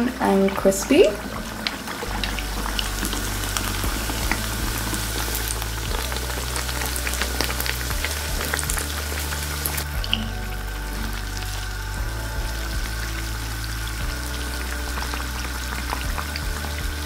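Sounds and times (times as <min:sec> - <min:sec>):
pastry deep-frying in oil: 0:00.0 - 0:17.0.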